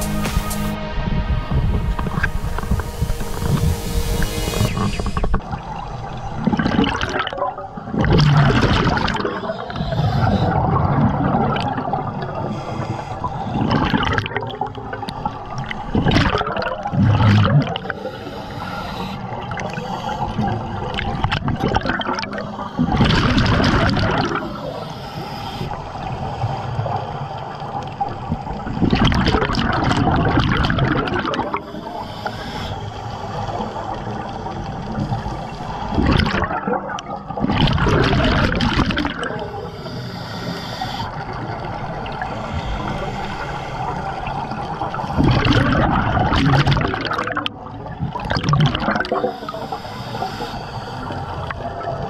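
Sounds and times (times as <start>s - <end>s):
steady watery rush: 0.0s - 52.0s
exhaled bubbles gurgling: 1.1s - 52.0s.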